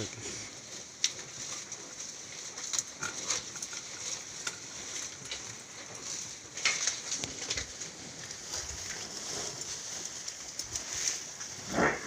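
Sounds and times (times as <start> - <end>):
buffalo moving and breathing: 0.0 - 12.0.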